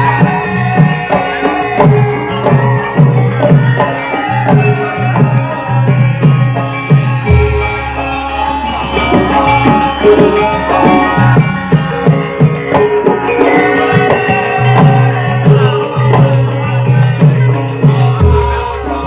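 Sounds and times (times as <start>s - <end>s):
ringing pitched percussion: 0.0s - 19.0s.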